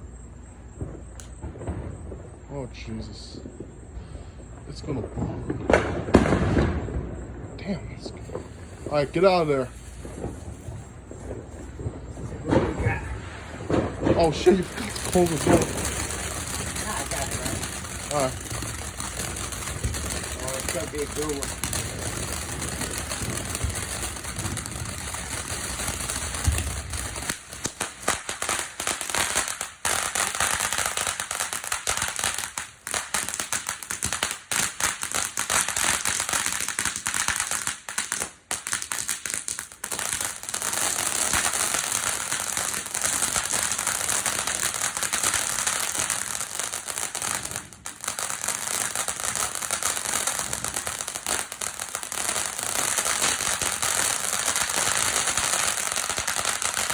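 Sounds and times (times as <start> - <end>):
fireworks crackling and popping: 0.0 - 56.9.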